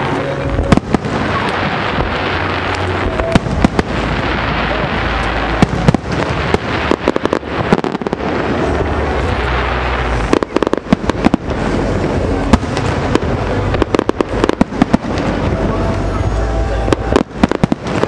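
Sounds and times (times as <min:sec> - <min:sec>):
fireworks bursting with sharp bangs: 0:00.0 - 0:18.0
rolling rumble of echoing reports: 0:00.0 - 0:18.0.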